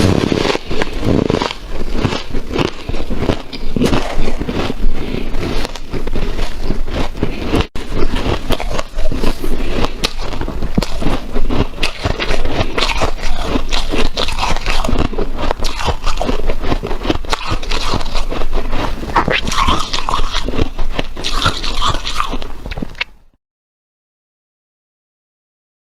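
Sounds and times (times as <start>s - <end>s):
chewing crunchy frost: 0.0s - 23.2s.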